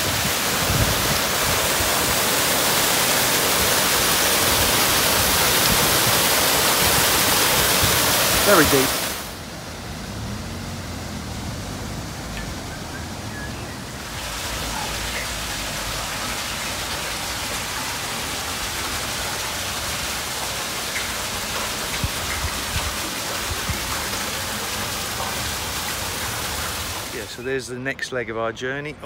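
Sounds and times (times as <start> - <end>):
water gushing and splashing: 0.0 - 27.5.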